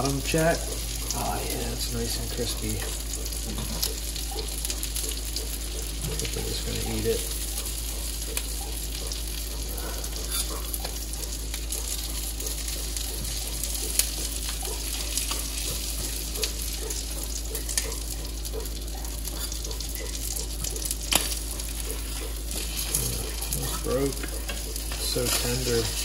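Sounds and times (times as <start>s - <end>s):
fish frying with crackles: 0.0s - 26.0s
sharp ticks: 2.8s - 25.2s.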